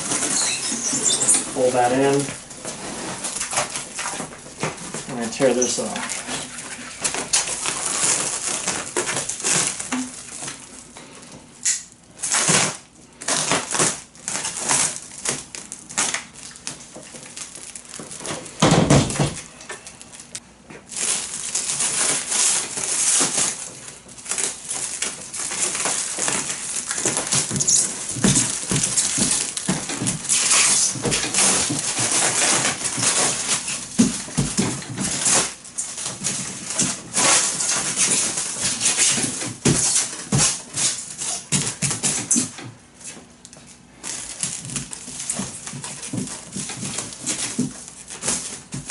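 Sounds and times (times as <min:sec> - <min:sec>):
plastic film crackling and rustling: 0:00.0 - 0:48.9.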